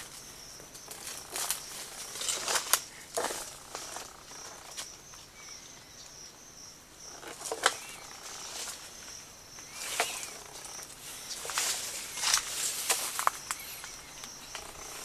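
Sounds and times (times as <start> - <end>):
insect trilling: 0.0 - 15.0.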